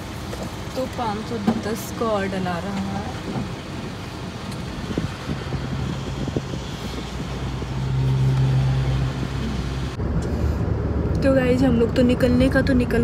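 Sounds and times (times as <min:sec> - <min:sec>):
car engine hum: 0:00.0 - 0:13.0
road traffic noise: 0:00.0 - 0:13.0.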